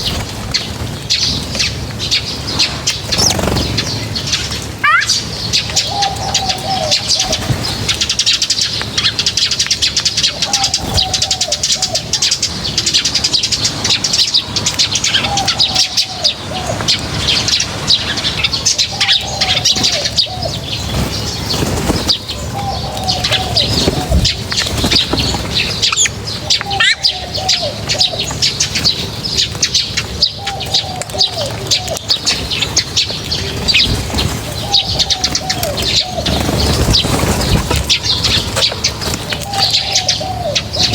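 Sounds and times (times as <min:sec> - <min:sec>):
small birds chirping: 0:00.0 - 0:40.9
dove cooing: 0:04.8 - 0:08.3, 0:10.1 - 0:12.6, 0:13.8 - 0:40.9.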